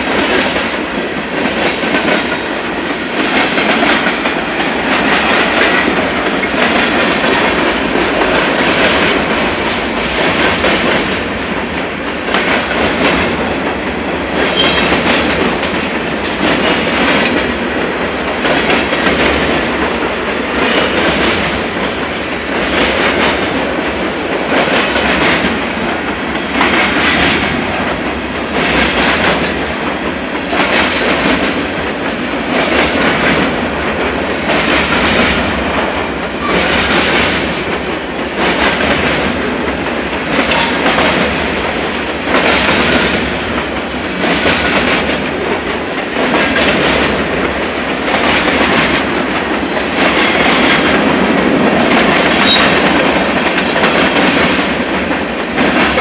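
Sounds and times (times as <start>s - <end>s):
steel wheels rumbling on rail: 0.0s - 56.0s
train wheels clickety-clack: 0.0s - 56.0s.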